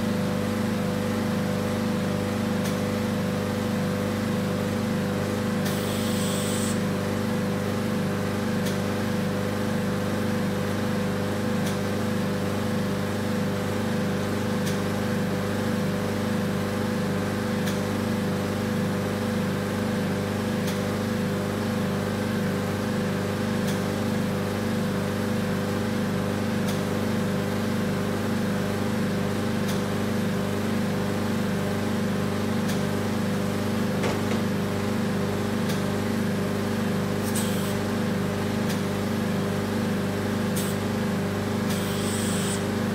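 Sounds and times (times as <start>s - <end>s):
machine mechanical hum: 0.0s - 42.9s.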